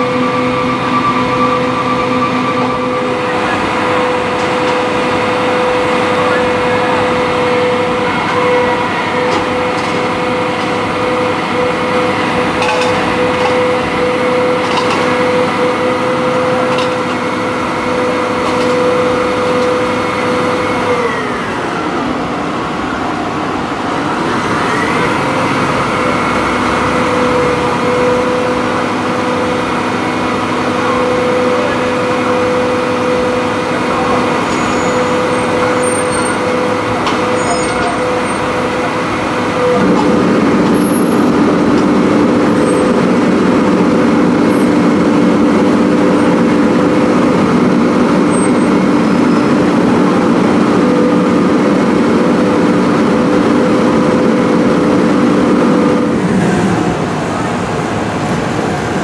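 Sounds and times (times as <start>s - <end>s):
diesel engine running at high idle: 0.0s - 59.0s.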